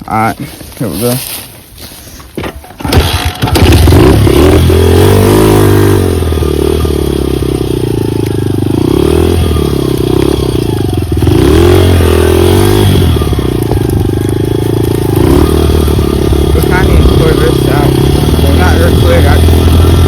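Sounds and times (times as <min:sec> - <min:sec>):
dirt bike engine revving: 0:02.8 - 0:20.0.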